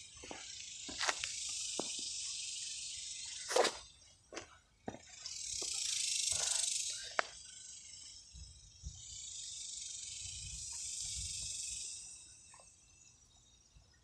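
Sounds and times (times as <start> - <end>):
high dry buzzing rattle: 0.0 - 13.9.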